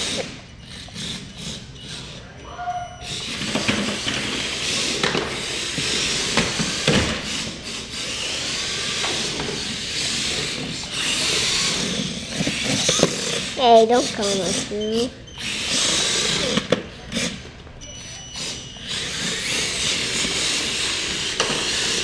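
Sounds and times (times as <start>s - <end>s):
toy vehicle motors whirring: 0.0s - 22.0s.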